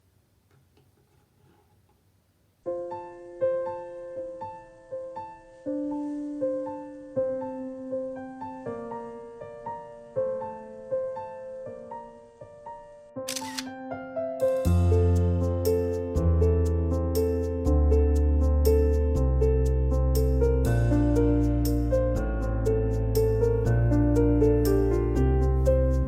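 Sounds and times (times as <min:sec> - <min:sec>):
gentle piano music: 0:02.6 - 0:26.0.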